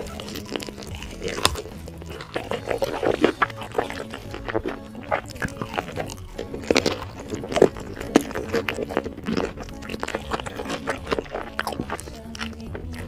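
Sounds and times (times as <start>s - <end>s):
person chewing and biting: 0.0s - 13.0s.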